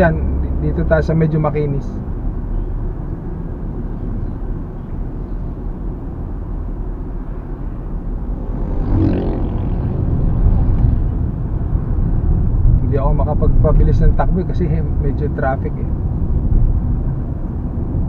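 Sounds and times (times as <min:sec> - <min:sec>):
tyre and road rumble: 0:00.0 - 0:18.0
vehicle passing: 0:00.0 - 0:18.0.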